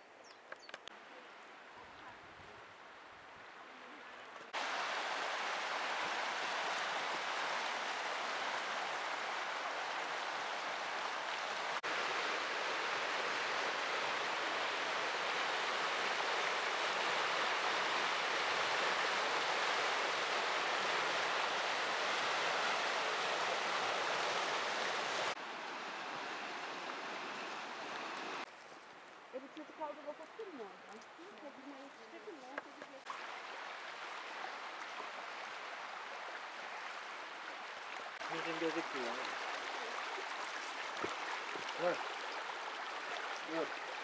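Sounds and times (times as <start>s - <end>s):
river water rushing over rapids: 2.3s - 28.5s, 32.0s - 44.0s.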